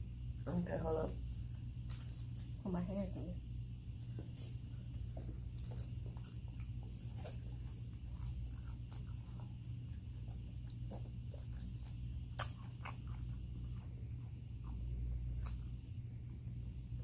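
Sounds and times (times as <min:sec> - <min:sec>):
low steady hum: 0:00.0 - 0:17.0
chewing crunchy food: 0:00.2 - 0:02.7, 0:03.8 - 0:17.0.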